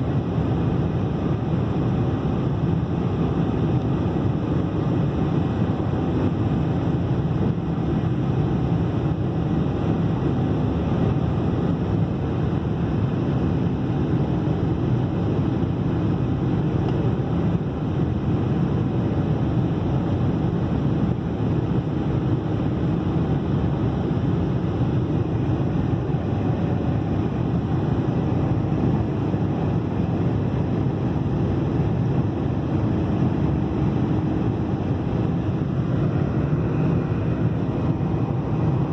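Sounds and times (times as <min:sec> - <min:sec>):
airliner cabin noise: 0:00.0 - 0:38.9.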